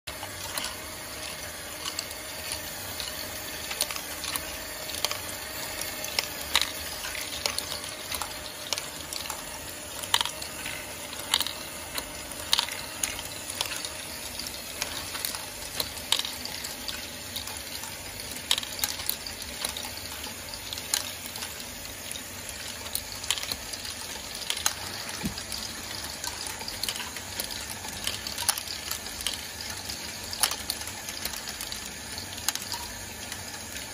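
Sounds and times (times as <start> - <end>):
plastic balls rolling and clattering: 0.1 - 33.9
small motors and gears whirring: 0.1 - 33.9.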